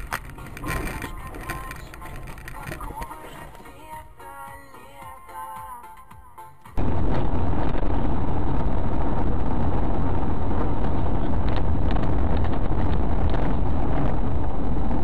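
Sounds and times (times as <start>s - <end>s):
car engine and road rumble: 0.0s - 5.0s, 6.7s - 15.0s.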